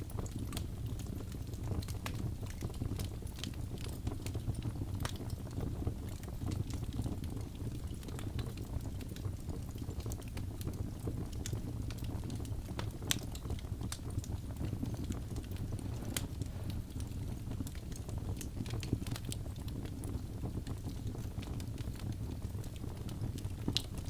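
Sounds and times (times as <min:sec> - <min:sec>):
fire flames rumbling: 0:00.0 - 0:24.0
logs crackling and popping: 0:00.0 - 0:24.0.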